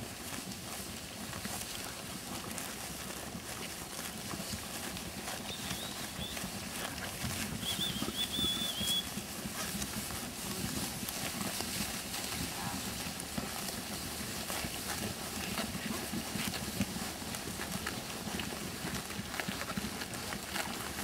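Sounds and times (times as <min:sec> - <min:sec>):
hooves shifting: 0:00.0 - 0:21.0
sheep chewing grass: 0:00.0 - 0:21.0.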